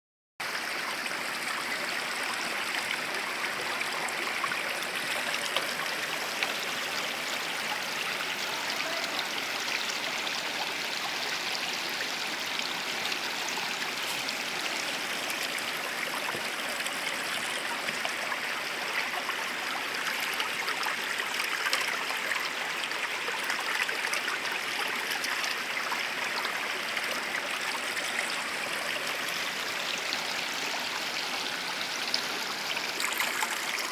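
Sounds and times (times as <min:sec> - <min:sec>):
stream running over rocks: 0:00.4 - 0:33.9.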